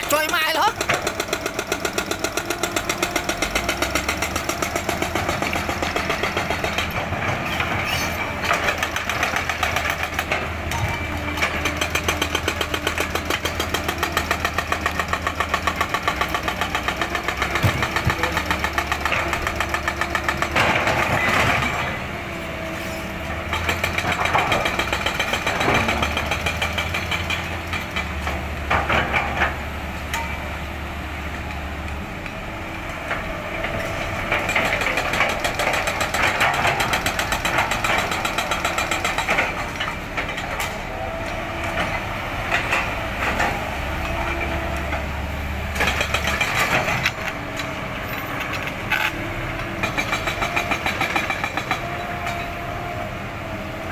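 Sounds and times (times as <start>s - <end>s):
excavator diesel engines: 0.0s - 53.9s.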